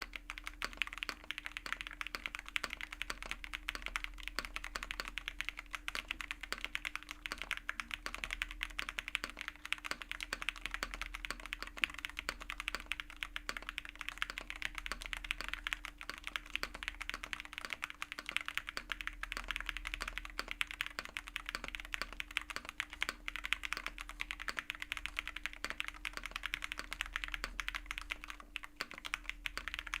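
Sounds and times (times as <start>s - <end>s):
fast mechanical keyboard typing: 0.0s - 30.0s.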